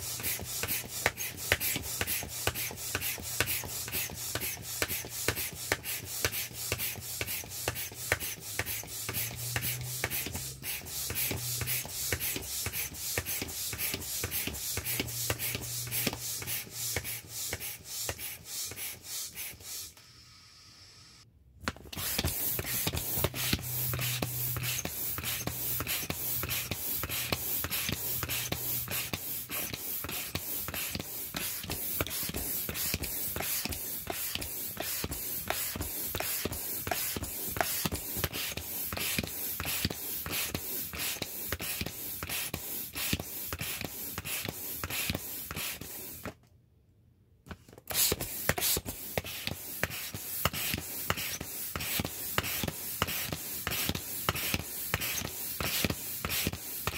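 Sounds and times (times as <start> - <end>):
air pump strokes: 0.0 - 20.5, 21.8 - 46.4, 47.9 - 56.9.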